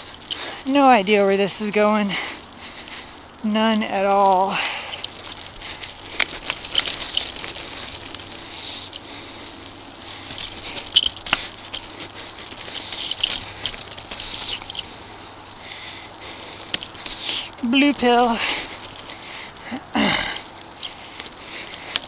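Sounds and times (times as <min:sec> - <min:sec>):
bike rattling over bumps: 0:00.0 - 0:03.4, 0:04.4 - 0:22.0
bike tyres crunching on gravel: 0:00.0 - 0:03.4, 0:04.2 - 0:22.0.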